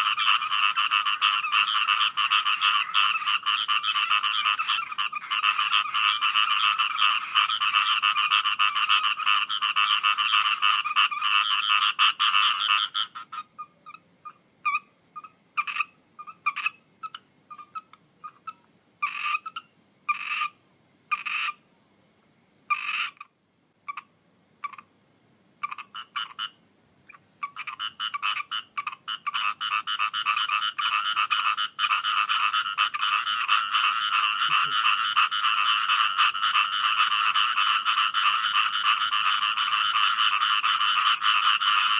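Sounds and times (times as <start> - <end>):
frogs croaking: 0.0 - 41.9.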